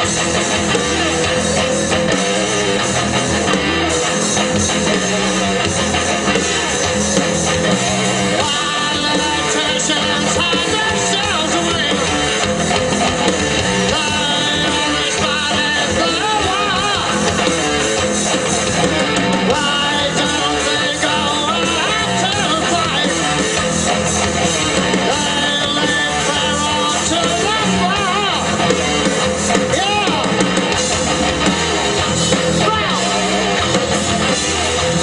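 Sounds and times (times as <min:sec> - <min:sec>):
lead guitar with vibrato: 0:00.0 - 0:35.0
rock band playing loudly: 0:00.0 - 0:35.0.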